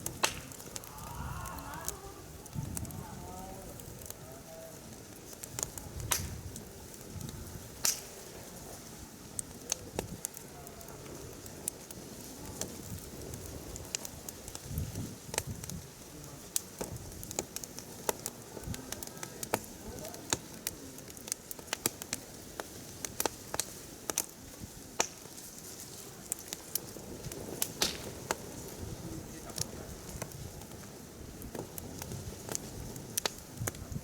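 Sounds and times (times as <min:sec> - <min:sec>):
campfire crackling and popping: 0:00.0 - 0:34.0
soft hiss of flames: 0:00.0 - 0:34.0.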